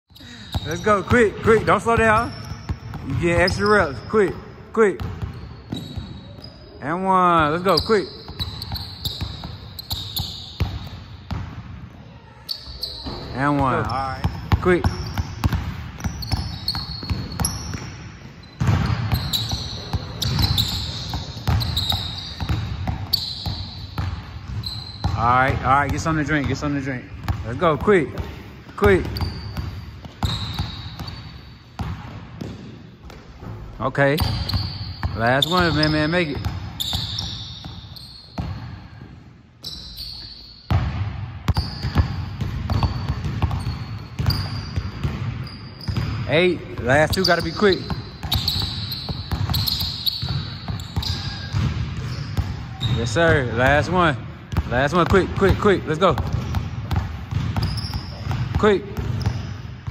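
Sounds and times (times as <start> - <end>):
sneaker squeaks: 0.0 - 59.9
basketball dribbling on gym floor: 0.2 - 4.4, 7.4 - 11.6, 12.8 - 39.2, 40.7 - 59.9.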